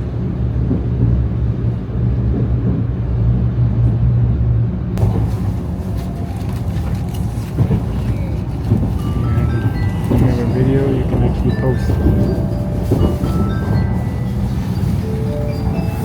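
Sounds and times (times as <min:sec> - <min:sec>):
rushing air and rail noise: 0:00.0 - 0:16.0
train interior rumble and hum: 0:00.0 - 0:16.0.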